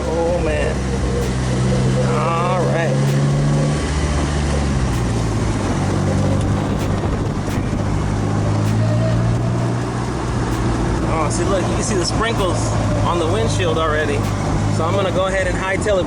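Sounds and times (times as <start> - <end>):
car engine running: 0.0 - 16.0
wind noise on microphone: 0.0 - 16.0.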